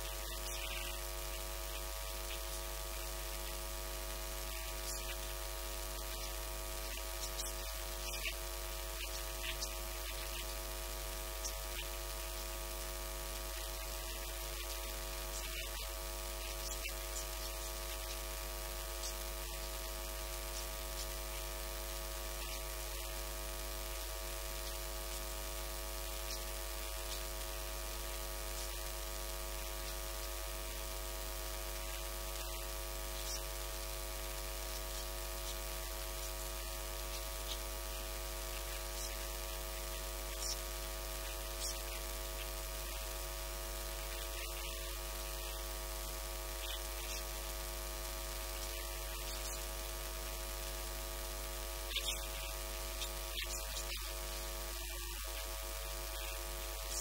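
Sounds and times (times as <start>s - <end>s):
electrical mains hum: 0.0s - 57.0s
static hiss: 0.0s - 57.0s.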